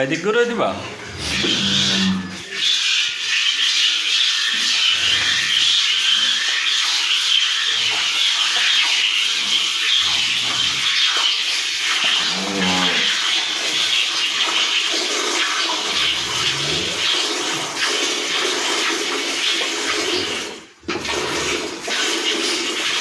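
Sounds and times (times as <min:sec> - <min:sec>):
milk squirting into a pail: 0:01.1 - 0:23.0.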